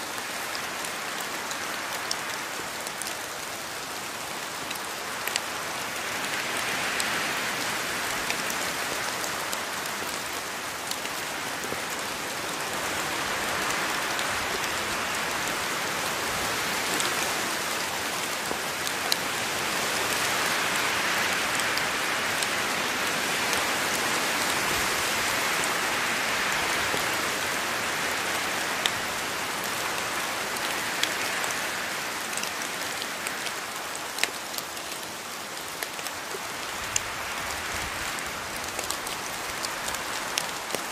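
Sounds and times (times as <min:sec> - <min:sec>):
rain pattering on foliage: 0:00.0 - 0:40.9.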